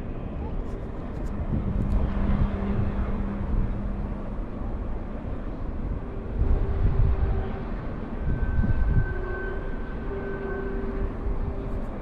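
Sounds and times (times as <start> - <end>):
distant freight train rumble: 0.0 - 12.0.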